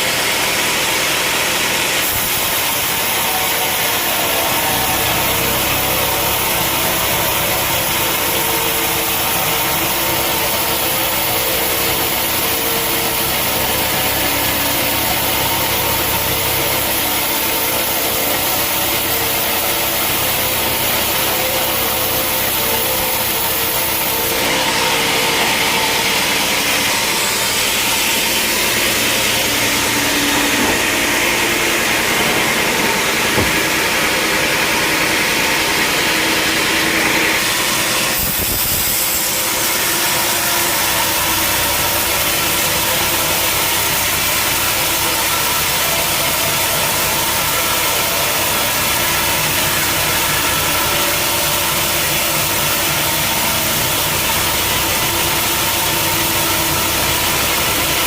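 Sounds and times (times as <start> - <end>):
hissing sawing: 0.0 - 58.0
sawmill engine drone: 0.0 - 58.0.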